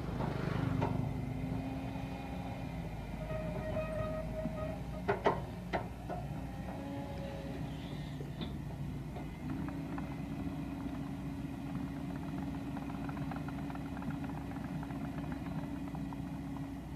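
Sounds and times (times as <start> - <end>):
heavy machine engine running: 0.0 - 16.9.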